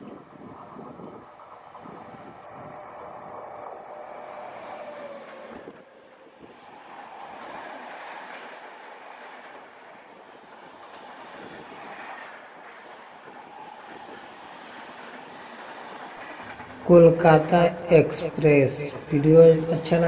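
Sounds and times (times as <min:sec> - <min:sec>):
train wheels rushing on rail: 0:00.0 - 0:20.0.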